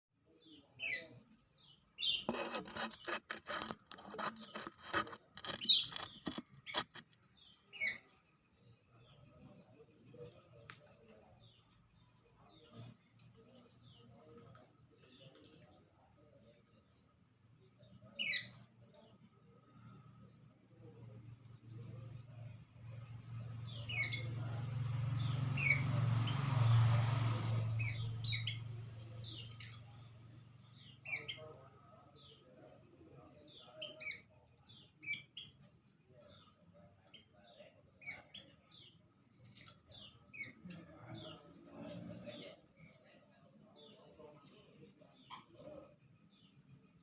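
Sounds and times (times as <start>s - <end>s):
birds chirping: 0.3s - 47.0s.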